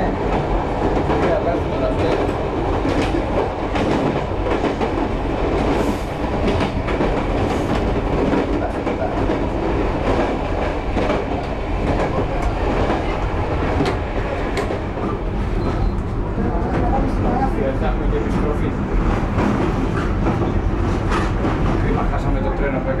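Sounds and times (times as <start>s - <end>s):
train rumble and rattle: 0.0s - 23.0s.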